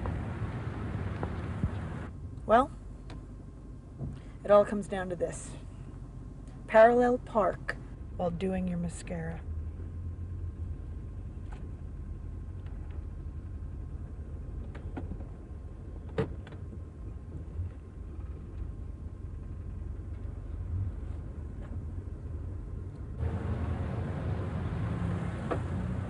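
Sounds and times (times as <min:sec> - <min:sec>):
car cabin rumble: 0:00.0 - 0:26.0.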